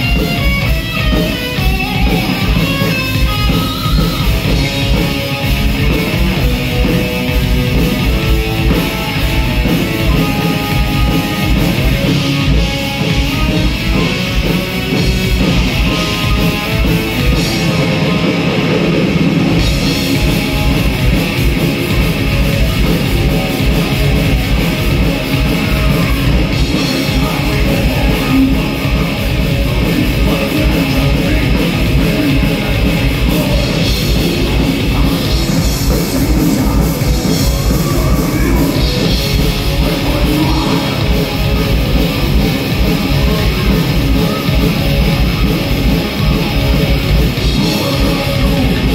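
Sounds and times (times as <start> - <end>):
bass guitar: 0.0 - 48.9
distorted electric guitar: 0.0 - 48.9
fast driving drums: 0.0 - 48.9.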